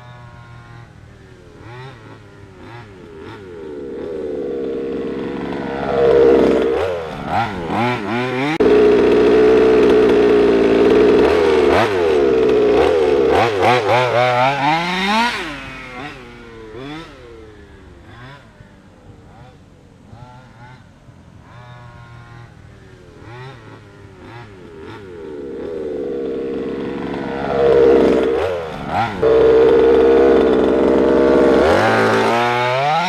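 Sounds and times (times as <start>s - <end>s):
toy truck engine revving: 0.0s - 18.8s, 21.5s - 33.0s.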